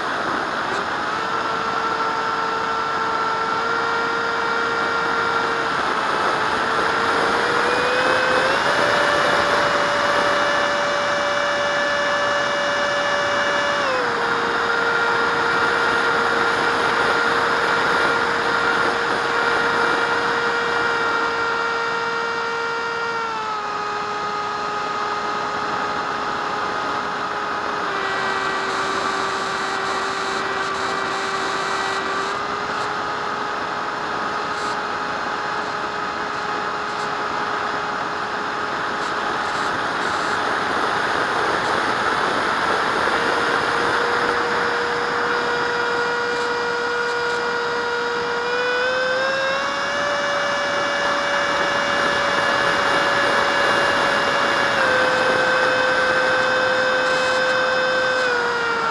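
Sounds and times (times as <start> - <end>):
electric fan high whine: 0.0 - 58.9.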